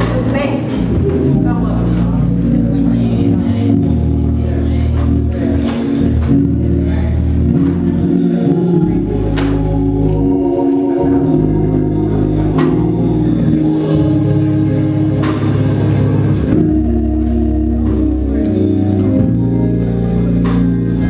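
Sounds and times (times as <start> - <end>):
bass line: 0.0 - 21.0
organ playing held chords: 0.0 - 21.0.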